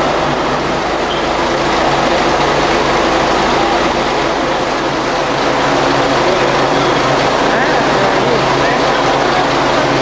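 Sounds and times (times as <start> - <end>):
bus engine idling: 0.0 - 10.0.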